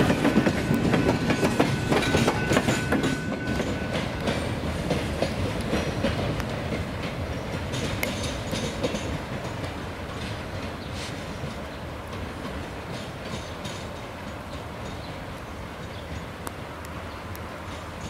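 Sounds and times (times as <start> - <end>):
train wheels clicking over rail joints: 0.0 - 18.0.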